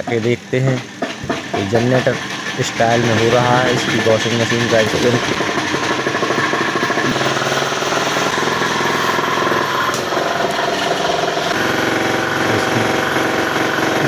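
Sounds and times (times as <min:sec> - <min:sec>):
spin dryer running loud: 0:00.0 - 0:14.0.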